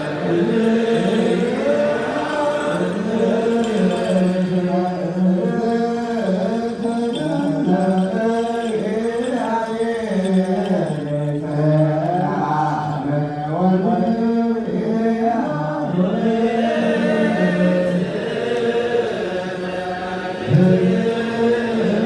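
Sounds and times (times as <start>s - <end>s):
man chanting slow melody: 0.0s - 22.0s.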